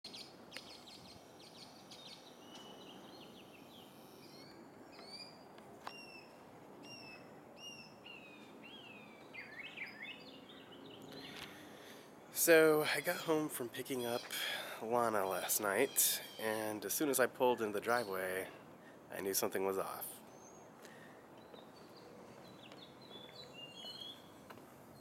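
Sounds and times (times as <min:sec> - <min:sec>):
birds chirping faintly: 0:00.0 - 0:25.0.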